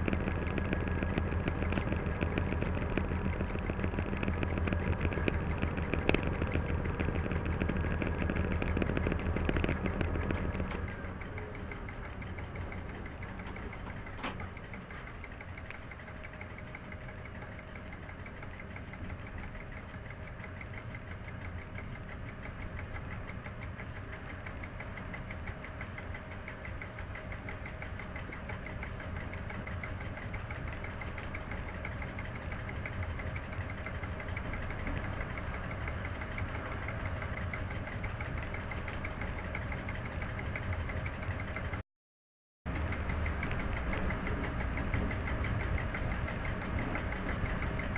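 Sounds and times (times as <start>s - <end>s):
locomotive engine throbbing: 0.0s - 41.8s, 42.7s - 47.9s
steady whine: 0.0s - 41.8s, 42.7s - 47.9s.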